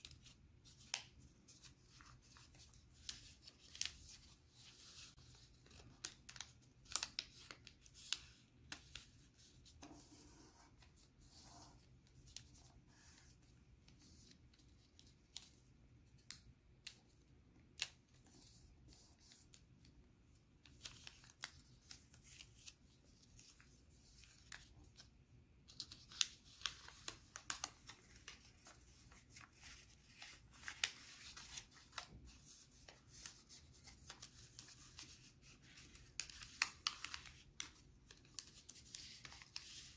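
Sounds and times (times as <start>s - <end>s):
paper crackling and rustling: 0.0s - 13.4s, 20.6s - 39.9s.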